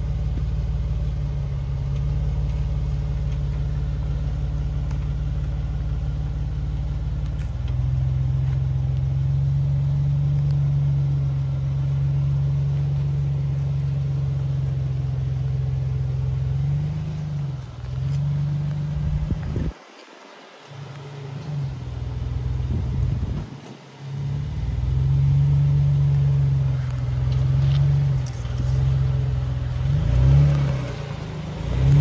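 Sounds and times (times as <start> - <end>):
car engine running at low revs: 0.0 - 32.0.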